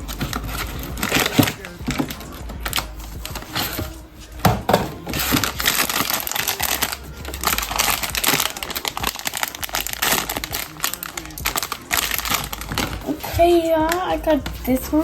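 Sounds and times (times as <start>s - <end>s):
plastic packaging crinkling: 0.0s - 14.8s.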